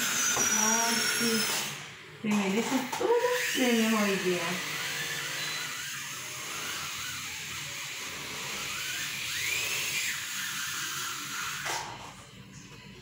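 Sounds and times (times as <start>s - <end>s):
dental drill whirring: 0.0s - 12.9s.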